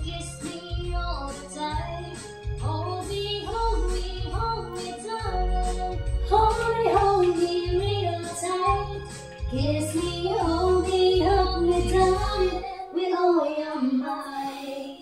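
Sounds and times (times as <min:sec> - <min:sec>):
steady bass line: 0:00.0 - 0:12.6.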